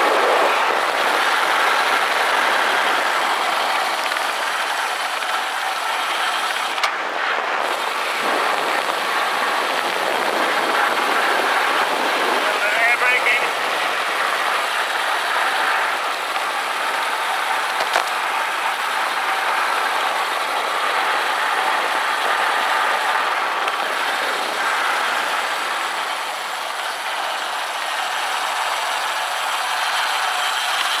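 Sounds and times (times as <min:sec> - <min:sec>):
wind rushing over helmet camera: 0:00.0 - 0:26.7
bicycle tyre noise: 0:00.0 - 0:31.0.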